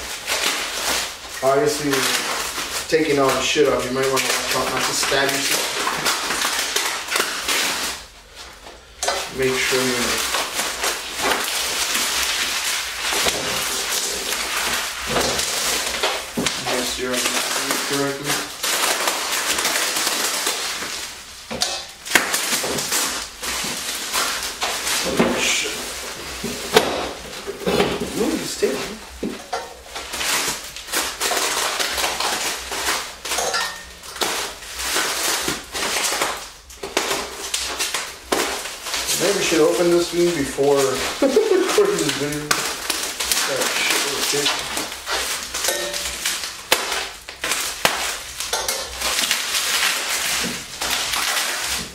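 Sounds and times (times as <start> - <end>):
bubble wrap crinkling: 0.0 - 51.9.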